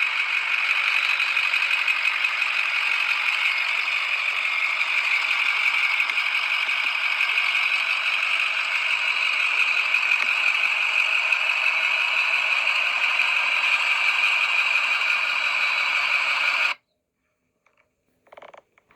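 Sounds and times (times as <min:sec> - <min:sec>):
diesel engine running: 0:00.0 - 0:16.8.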